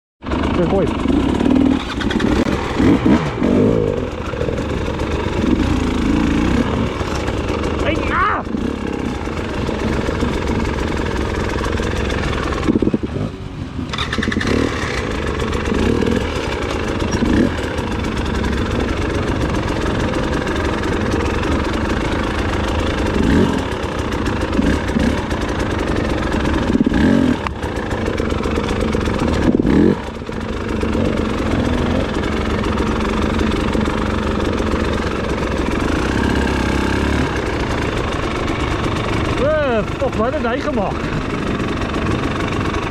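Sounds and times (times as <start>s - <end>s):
motorcycle engine revving: 0.2s - 42.9s.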